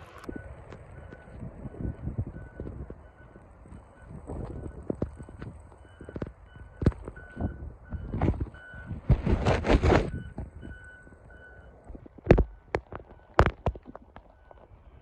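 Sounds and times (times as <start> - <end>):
vehicle backup alarm beeping: 0.0 - 9.1, 9.9 - 15.0
wind buffeting microphone: 0.0 - 13.0.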